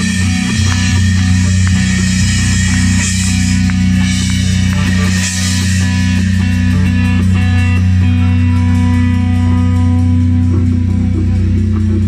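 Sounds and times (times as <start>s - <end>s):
bass guitar low notes: 0.0s - 12.0s
drums: 0.0s - 12.0s
electric guitar: 0.0s - 12.0s.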